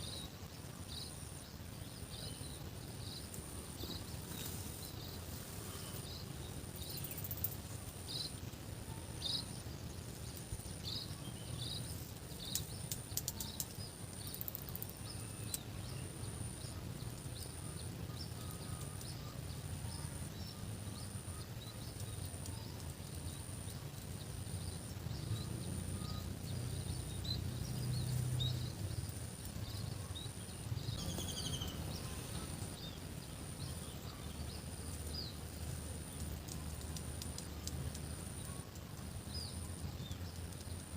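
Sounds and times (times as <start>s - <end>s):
high pulsing insect-like tone: 0.0s - 40.9s
small bird chirping: 0.0s - 40.9s.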